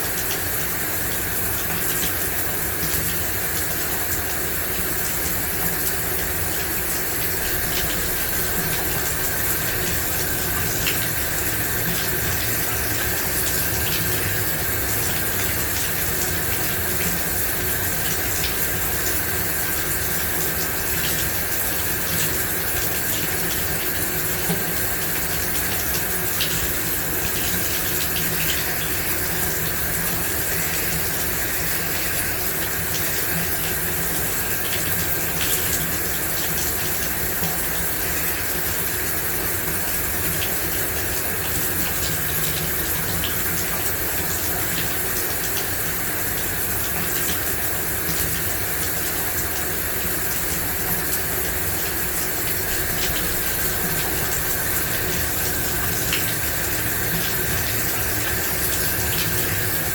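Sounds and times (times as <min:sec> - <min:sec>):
shower water spraying: 0:00.0 - 0:59.9.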